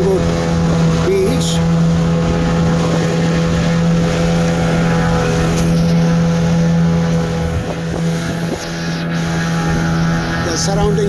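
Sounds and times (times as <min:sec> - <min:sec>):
motor boat engine drone: 0:00.0 - 0:11.0.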